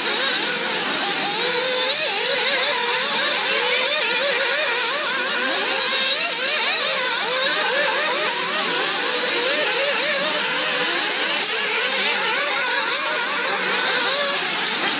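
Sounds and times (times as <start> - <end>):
model car engines whining: 0.0 - 14.9.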